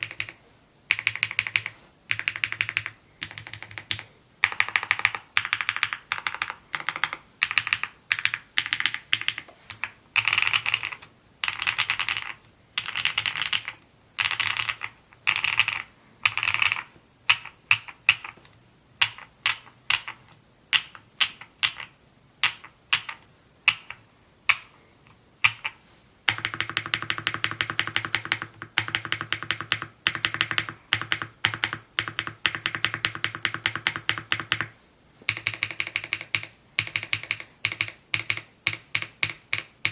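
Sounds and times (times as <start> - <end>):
typing on mechanical keyboard: 0.0 - 18.4, 19.0 - 24.7, 25.4 - 34.7, 35.3 - 39.9.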